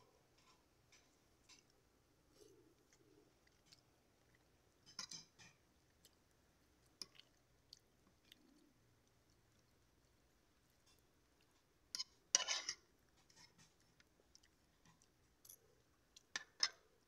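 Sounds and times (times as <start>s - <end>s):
faint chewing clicks: 0.4s - 12.1s, 13.0s - 17.0s.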